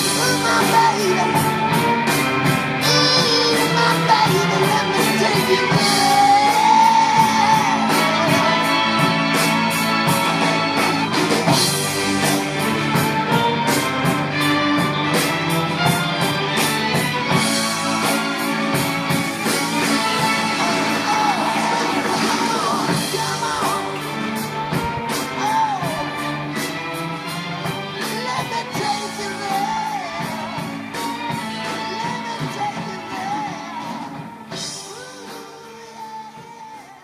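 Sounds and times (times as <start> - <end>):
rock music through speaker: 0.0 - 37.0.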